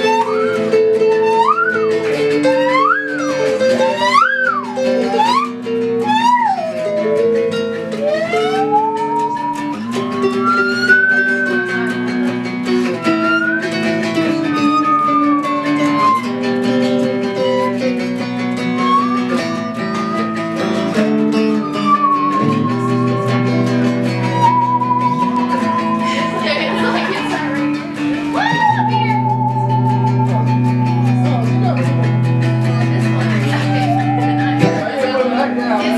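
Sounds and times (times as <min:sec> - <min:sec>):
guitar chords: 0:00.0 - 0:35.9
sliding lead melody: 0:00.0 - 0:35.9.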